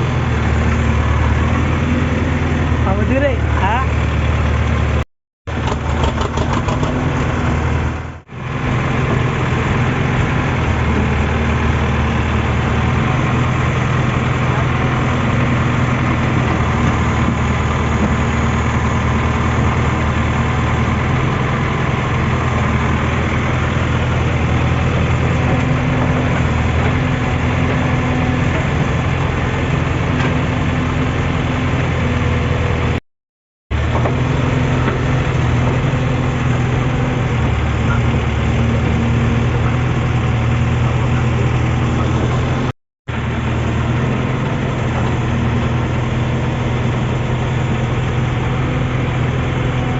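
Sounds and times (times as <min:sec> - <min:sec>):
heavy diesel engine idling: 0:00.0 - 0:33.0, 0:33.7 - 0:49.9.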